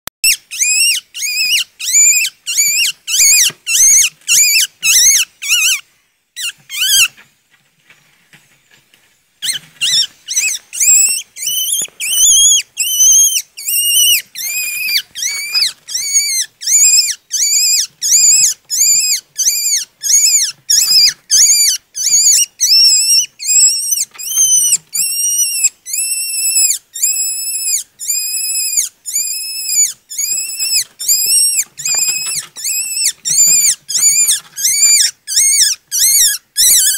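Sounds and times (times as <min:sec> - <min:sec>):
high-pitched animal cries: 0:00.2 - 0:05.8, 0:06.4 - 0:07.1, 0:09.4 - 0:36.9.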